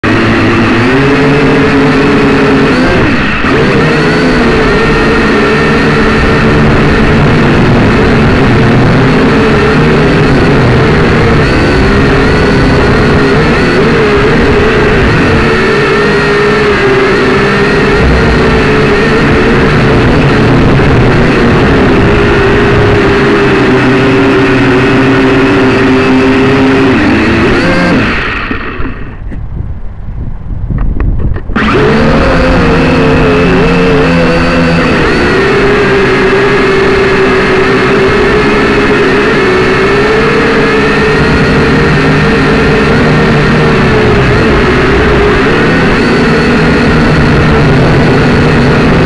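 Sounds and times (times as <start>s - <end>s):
drone motors whining: 0.0s - 49.0s.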